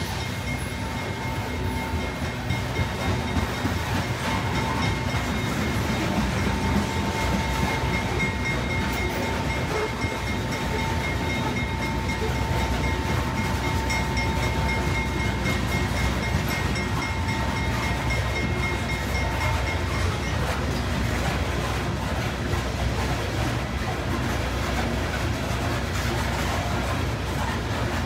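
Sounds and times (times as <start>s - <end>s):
steel wheels rumbling on rail: 0.0s - 28.0s.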